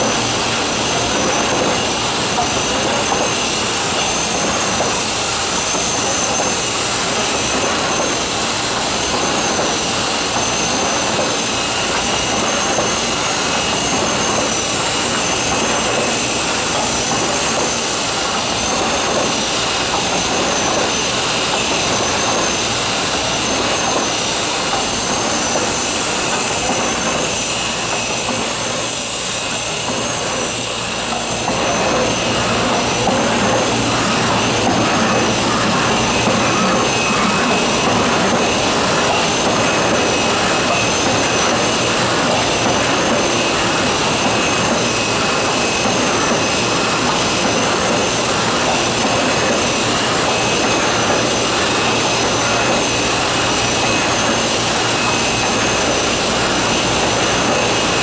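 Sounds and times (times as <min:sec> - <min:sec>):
printing press running: 0:00.0 - 0:58.0.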